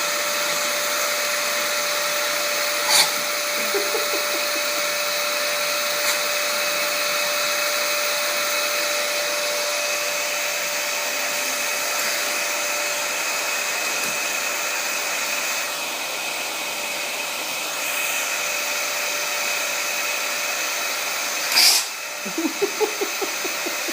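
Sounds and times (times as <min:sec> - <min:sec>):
vacuum cleaner motor whine: 0:00.0 - 0:23.9.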